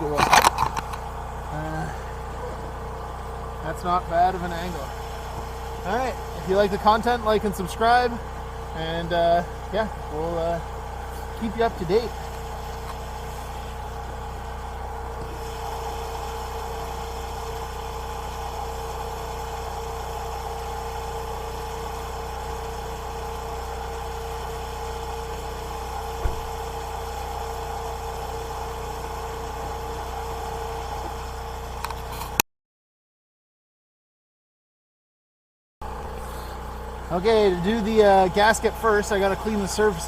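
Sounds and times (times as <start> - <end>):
generator engine droning: 0.0 - 32.4, 35.8 - 40.0.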